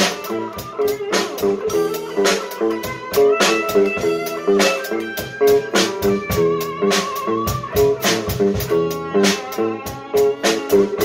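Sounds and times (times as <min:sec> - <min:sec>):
drum-kit beat: 0:00.0 - 0:11.0
electric lead guitar: 0:00.0 - 0:11.0
repeating low riff: 0:00.0 - 0:11.0.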